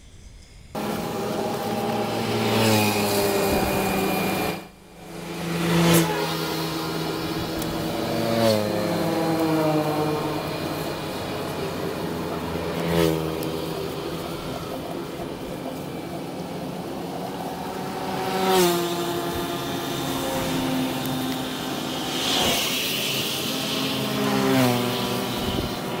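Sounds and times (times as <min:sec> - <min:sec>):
motor scooters passing: 0:00.7 - 0:26.0
tyres hissing on wet asphalt: 0:00.7 - 0:26.0.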